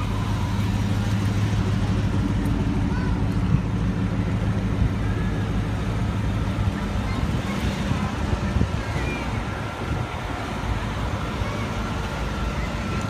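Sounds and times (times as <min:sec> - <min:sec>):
car engines rumbling past: 0:00.0 - 0:13.0.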